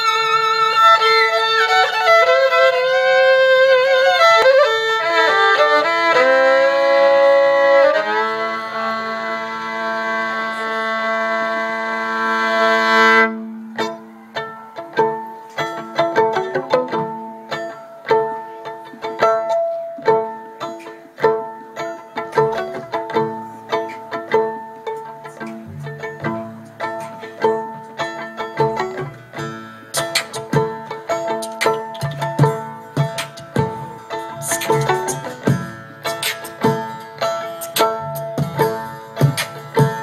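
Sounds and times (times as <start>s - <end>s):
plucked string notes: 0.0s - 40.0s
solo fiddle melody: 0.0s - 40.0s.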